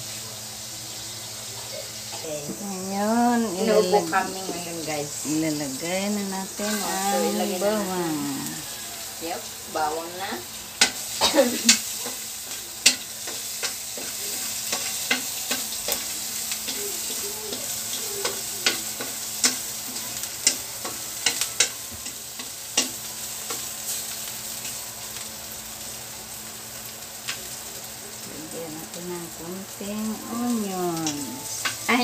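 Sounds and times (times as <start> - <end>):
garlic sizzling in oil: 0.0 - 32.0.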